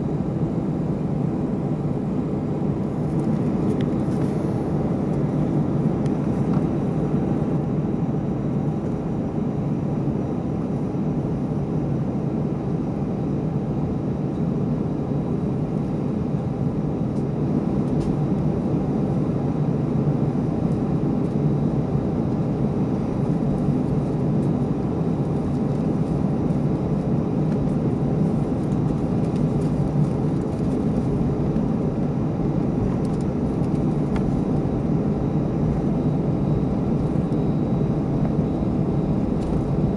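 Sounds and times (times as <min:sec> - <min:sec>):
aircraft engines idling: 0:00.0 - 0:11.8, 0:15.3 - 0:39.9.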